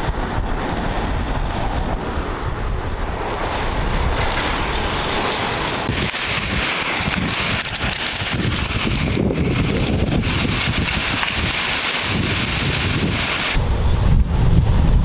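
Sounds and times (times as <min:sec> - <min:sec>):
low rumble: 0:00.0 - 0:15.0
wind buffeting microphone: 0:00.0 - 0:15.0.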